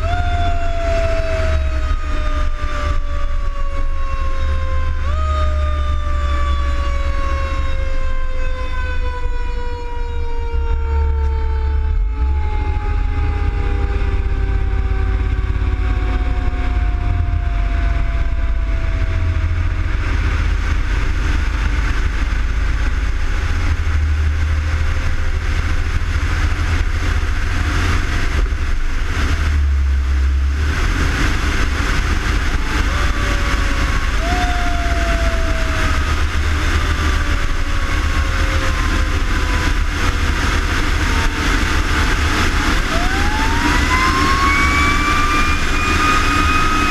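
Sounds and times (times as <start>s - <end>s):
siren winding down: 0.0s - 23.4s, 30.5s - 46.9s
heavy engine and road rumble: 0.0s - 46.9s.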